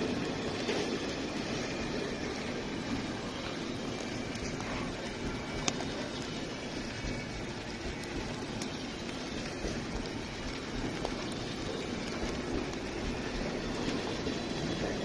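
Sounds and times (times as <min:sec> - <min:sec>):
freight train rumbling: 0:00.0 - 0:15.0
heavy rain pouring: 0:00.0 - 0:15.0
running floodwater: 0:00.0 - 0:15.0.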